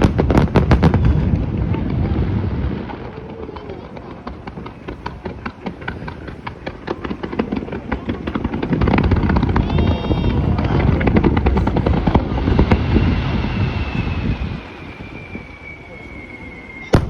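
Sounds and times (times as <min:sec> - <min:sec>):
fireworks bursts rumbling: 0:00.0 - 0:17.0
fireworks crackling pops: 0:00.0 - 0:17.0.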